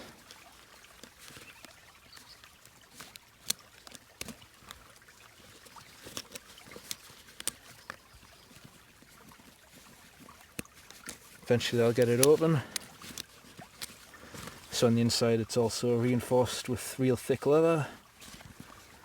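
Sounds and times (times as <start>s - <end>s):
leather bag straps clicking and rustling: 0.0s - 15.0s, 18.0s - 19.0s
stream trickling: 0.0s - 19.0s.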